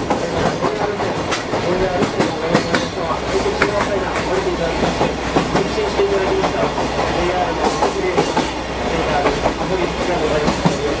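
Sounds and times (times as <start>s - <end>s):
train rolling rumble: 0.0s - 11.0s
wheels clacking over rail joints: 0.0s - 11.0s.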